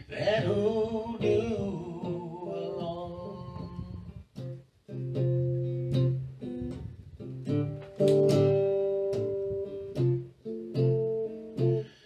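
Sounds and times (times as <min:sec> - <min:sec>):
blues guitar playing: 0:00.0 - 0:12.0.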